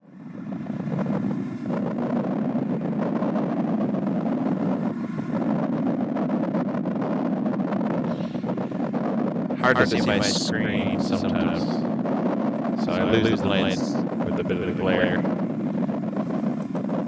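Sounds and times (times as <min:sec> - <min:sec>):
wind buffeting thumps: 0:00.0 - 0:17.0
wind rumble on microphone: 0:00.0 - 0:17.0.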